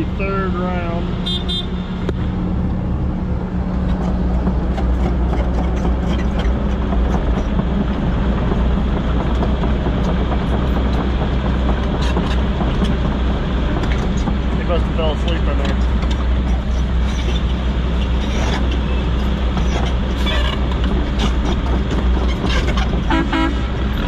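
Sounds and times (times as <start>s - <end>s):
heavy equipment diesel engines: 0.0s - 24.0s.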